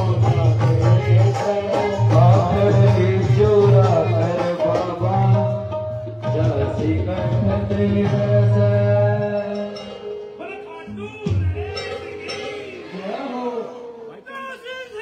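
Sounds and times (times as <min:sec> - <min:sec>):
held instrumental notes: 0:00.0 - 0:14.6.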